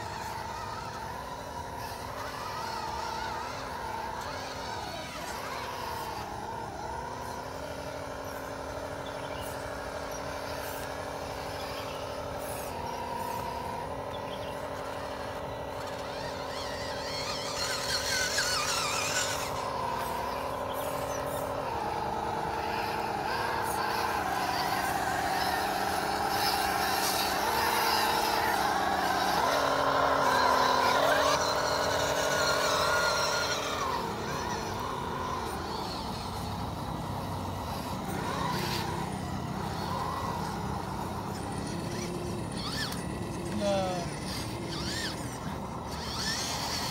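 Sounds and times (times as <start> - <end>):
electric motors whining: 0.0 - 46.9.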